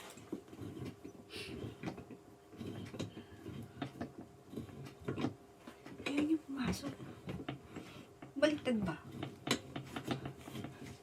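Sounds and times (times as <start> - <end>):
chair parts clicking and scraping: 0.0 - 11.0.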